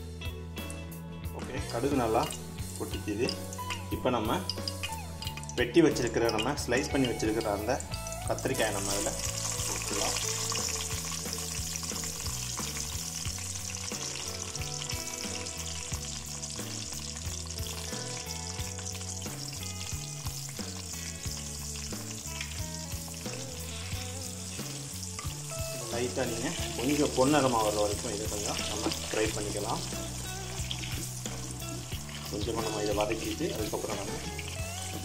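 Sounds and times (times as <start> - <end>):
vegetable slices sizzling in oil: 1.4 - 35.0.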